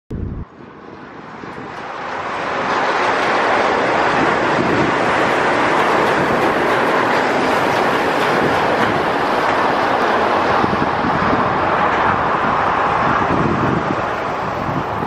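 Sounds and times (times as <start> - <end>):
monorail train passing overhead: 0.2 - 15.0.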